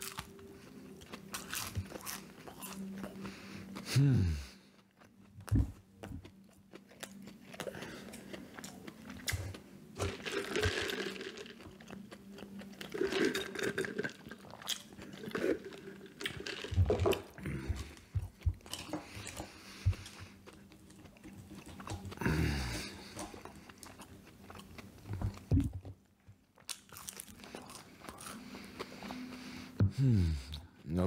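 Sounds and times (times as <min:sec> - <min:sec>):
person chewing and biting: 0:00.0 - 0:03.9, 0:04.8 - 0:25.7, 0:26.6 - 0:29.3.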